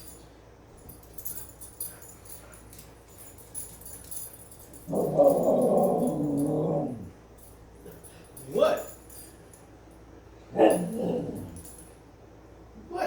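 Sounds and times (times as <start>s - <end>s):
faint light jingling: 0.0s - 12.2s.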